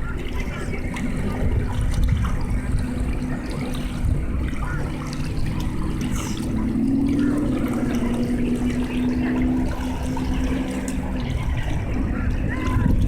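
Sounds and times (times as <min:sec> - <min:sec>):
low engine hum: 0:00.0 - 0:13.0
small waves lapping: 0:00.0 - 0:13.0.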